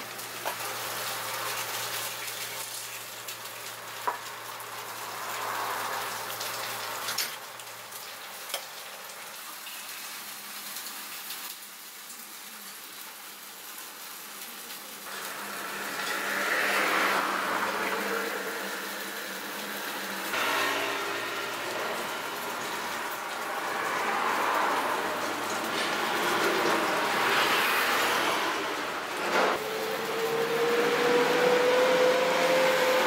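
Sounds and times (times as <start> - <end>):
food sizzling on a griddle: 0.0 - 29.9.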